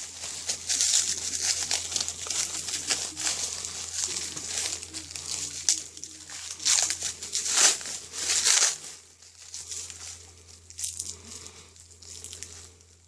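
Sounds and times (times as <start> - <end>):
packaging wrap crinkling: 0.0 - 13.0.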